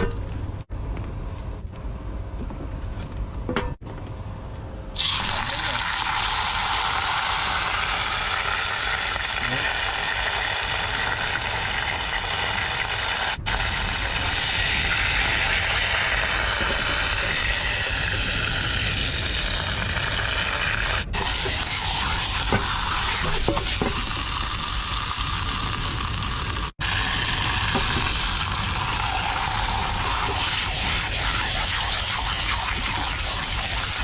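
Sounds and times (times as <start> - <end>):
food sizzling in a pan: 5.0 - 34.0.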